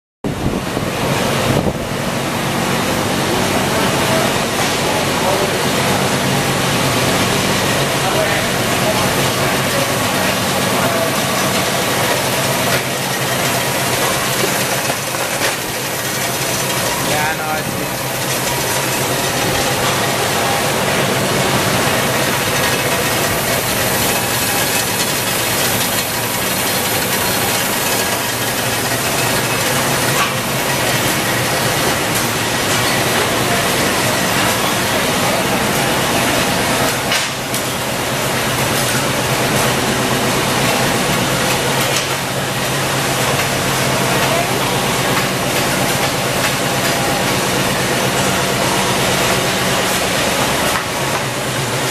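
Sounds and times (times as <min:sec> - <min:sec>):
low conveyor hum: 0:00.3 - 0:51.9.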